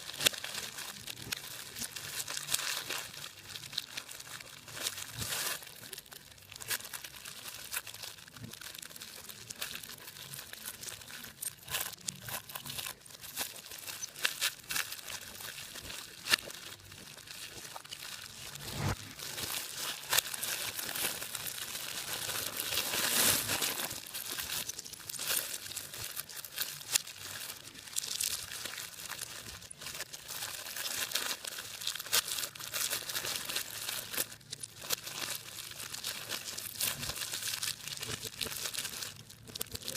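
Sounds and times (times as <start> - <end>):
hands crumpling and tearing material: 0.0 - 39.9.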